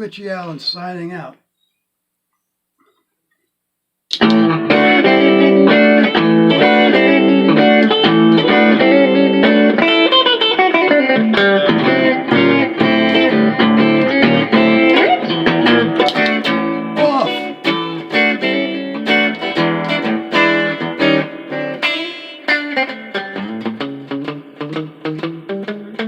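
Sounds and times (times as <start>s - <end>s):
electric guitar music: 4.1s - 26.0s.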